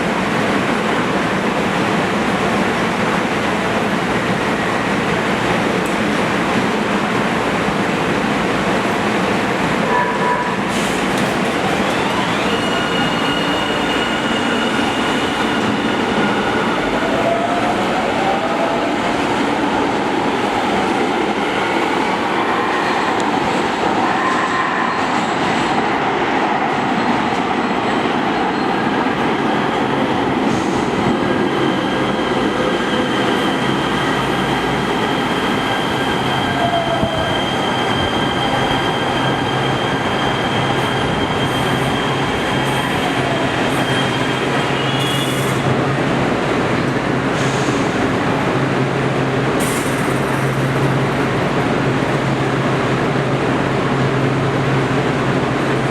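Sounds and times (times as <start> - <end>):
train wheels rumbling on track: 0.0 - 55.9.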